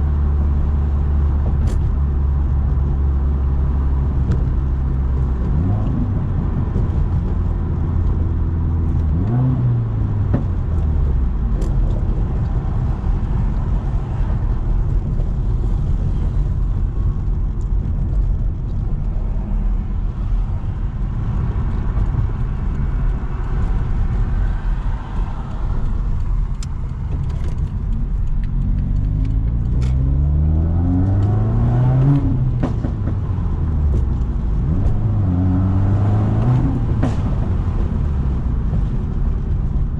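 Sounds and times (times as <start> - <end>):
car engine droning and revving: 0.0 - 39.9
exhaust cracks: 0.9 - 39.9.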